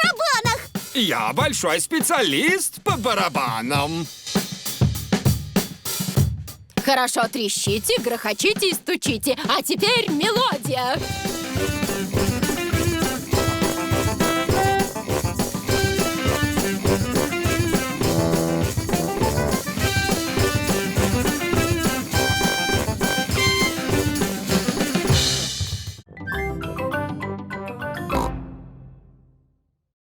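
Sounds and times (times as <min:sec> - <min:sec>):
band music with drum beat: 0:00.0 - 0:26.0.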